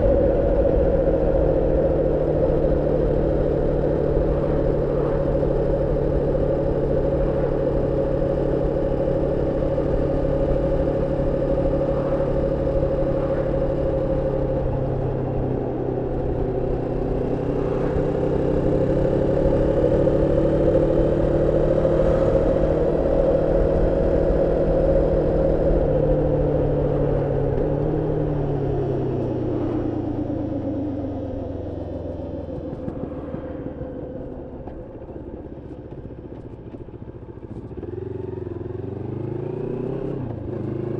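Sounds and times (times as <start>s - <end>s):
motorcycle engine steady note: 0.0s - 40.9s.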